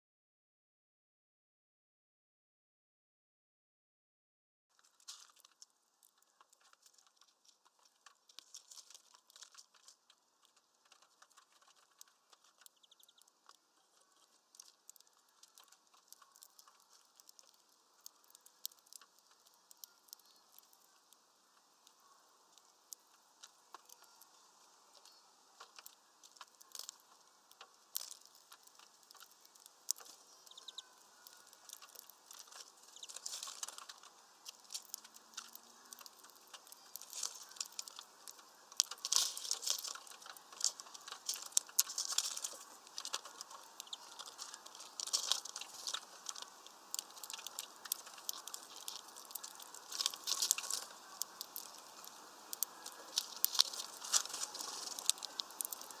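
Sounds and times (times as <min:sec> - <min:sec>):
birds pecking seeds: 0:04.7 - 0:56.0.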